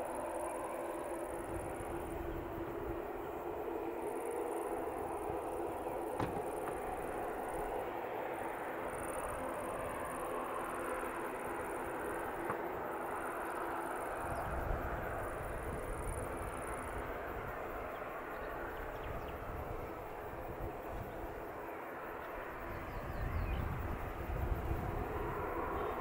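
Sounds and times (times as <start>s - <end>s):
distant jet engine rumble: 0.0s - 26.0s.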